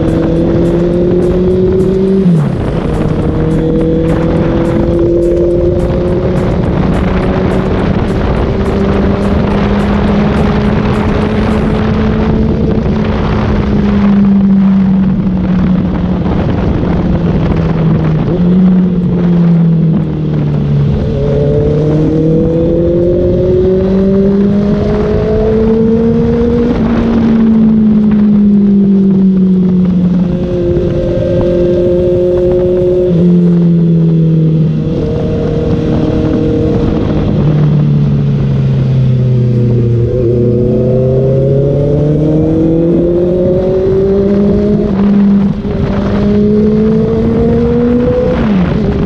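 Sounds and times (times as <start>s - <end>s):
motorcycle engine while riding: 0.0s - 49.0s
wind rush: 0.0s - 49.0s.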